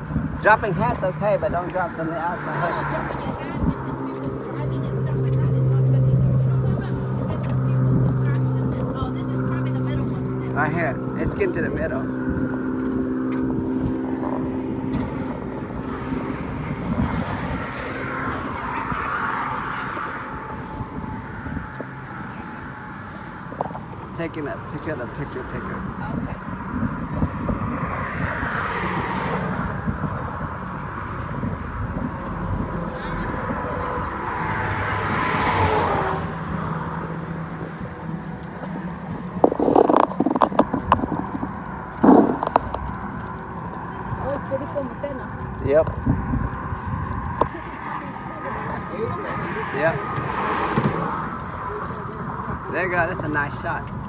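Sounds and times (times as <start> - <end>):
passing vehicle engine hum: 0.0 - 54.0
road traffic rumble: 0.0 - 54.0.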